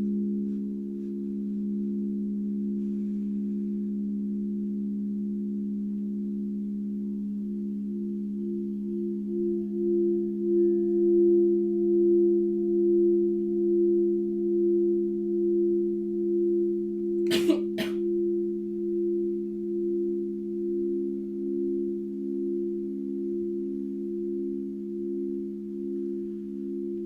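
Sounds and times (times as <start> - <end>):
singing bowls chord: 0.0 - 27.0.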